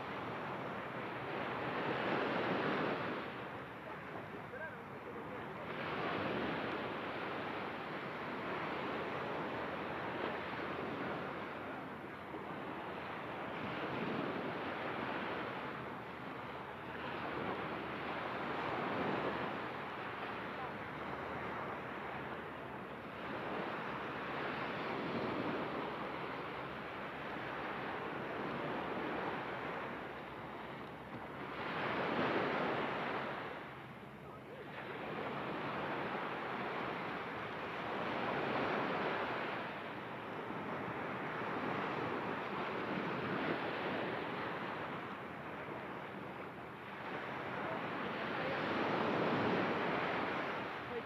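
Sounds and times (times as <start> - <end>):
ocean surf breaking: 0.0 - 51.0.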